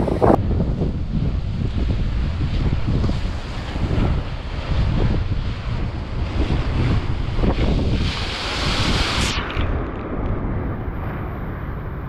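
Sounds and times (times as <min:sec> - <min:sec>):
rough sea wash: 0:00.0 - 0:12.0
wind buffeting microphone: 0:00.0 - 0:12.0.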